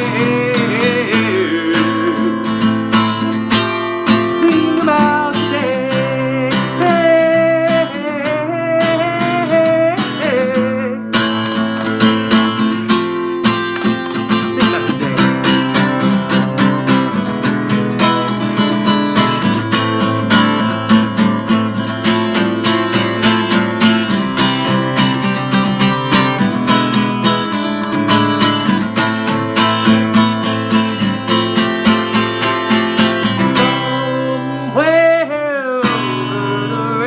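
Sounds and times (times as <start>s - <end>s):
acoustic guitar strumming chords: 0.0s - 37.0s.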